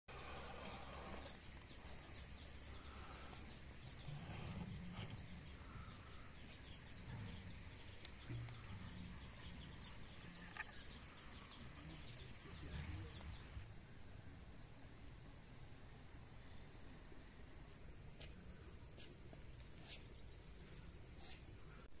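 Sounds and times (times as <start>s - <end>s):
faint bird chirps: 0.1s - 14.4s, 17.7s - 22.0s.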